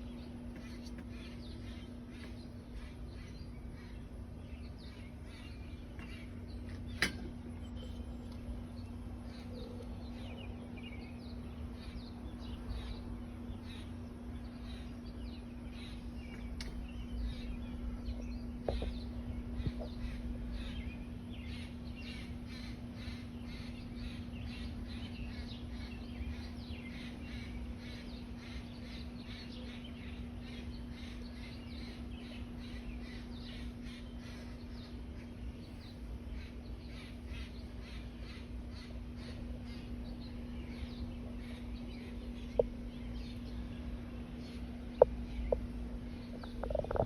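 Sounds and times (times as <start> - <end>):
harsh bird calls: 0.0 - 47.0
steady low hum: 0.0 - 47.0.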